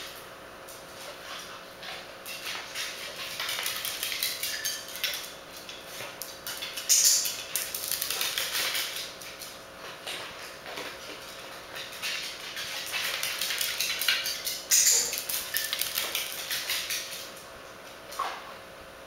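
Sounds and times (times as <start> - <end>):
dog claws clicking on tile: 1.2 - 17.4.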